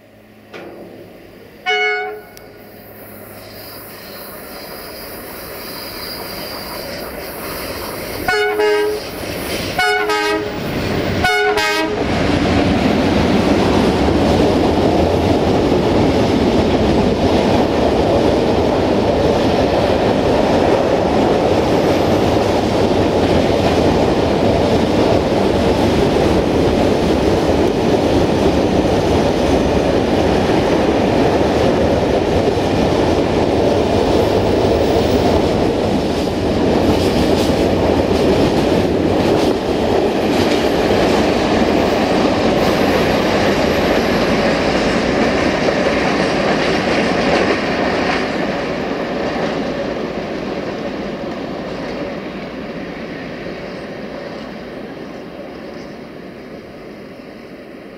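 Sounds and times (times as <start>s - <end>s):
freight wagons rumbling on rails: 0.2s - 56.0s.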